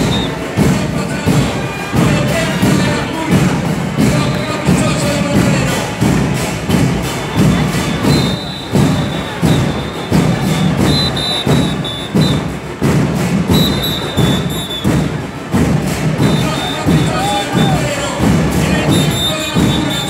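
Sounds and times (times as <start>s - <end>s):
bass drums with cymbals: 0.0s - 20.0s
crowd noise: 0.0s - 20.0s.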